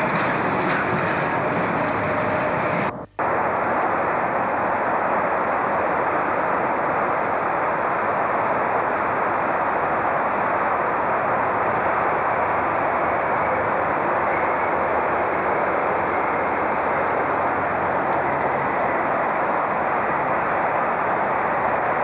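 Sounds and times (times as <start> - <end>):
freight train rumbling past: 0.0 - 22.0
steady rushing noise: 0.0 - 22.0.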